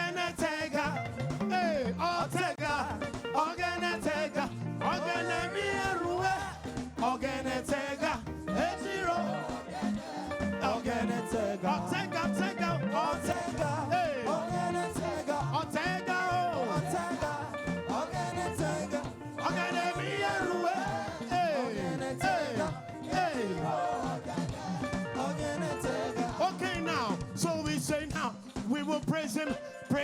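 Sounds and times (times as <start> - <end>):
people singing: 0.0 - 28.8
live band playing: 0.0 - 30.0.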